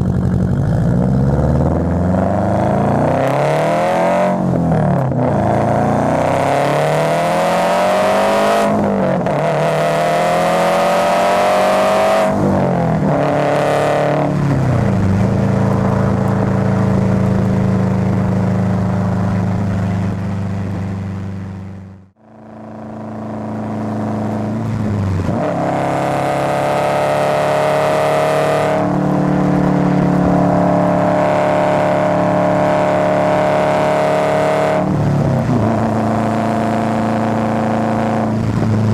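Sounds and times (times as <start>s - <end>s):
car engine and exhaust accelerating: 0.0s - 38.9s.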